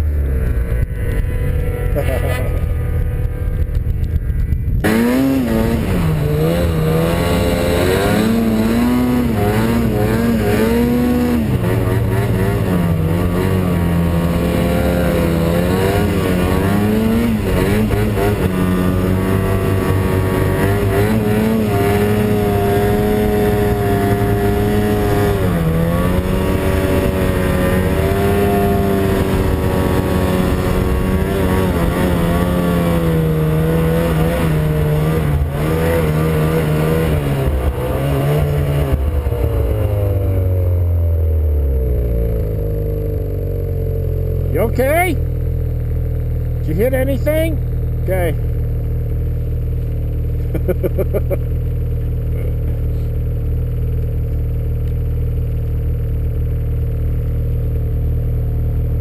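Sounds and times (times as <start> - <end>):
snowmobile engine under load: 0.0 - 59.0.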